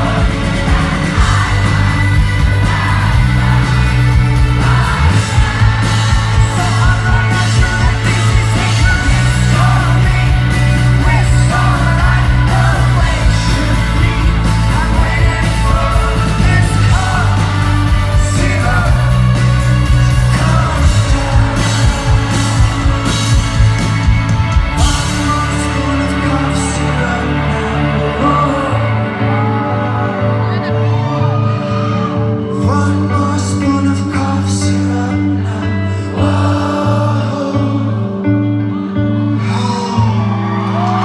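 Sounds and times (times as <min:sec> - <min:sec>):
person singing: 0:00.0 - 0:41.0
rock band playing live: 0:00.0 - 0:41.0.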